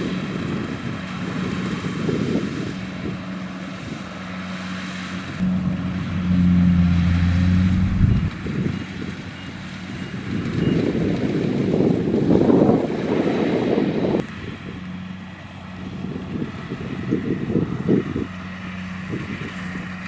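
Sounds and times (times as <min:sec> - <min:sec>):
diesel engine running: 0:00.0 - 0:20.0
rough engine rumble: 0:00.0 - 0:20.0.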